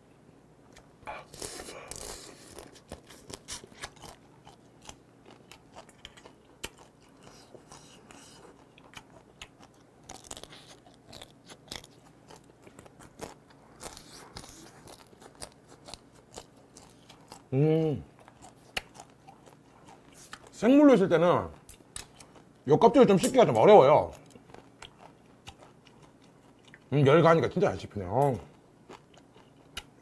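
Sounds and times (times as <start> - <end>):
sucking and chewing: 0.7 - 20.6, 21.4 - 26.9, 28.2 - 30.0.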